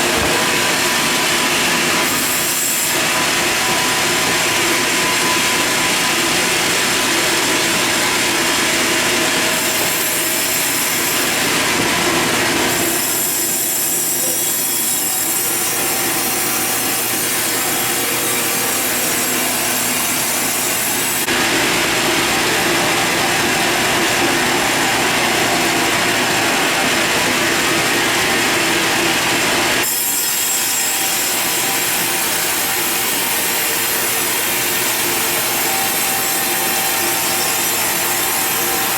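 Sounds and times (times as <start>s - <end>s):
saw cutting log: 0.0s - 38.9s.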